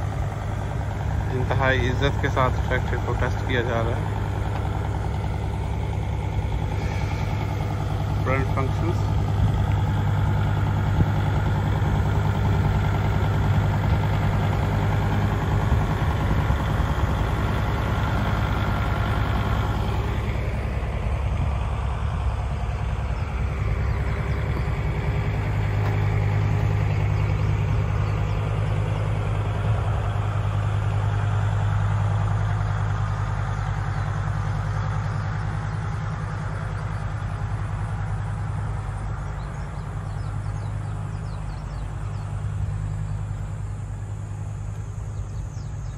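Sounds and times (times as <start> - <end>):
tractor diesel engine idling: 0.0 - 45.9.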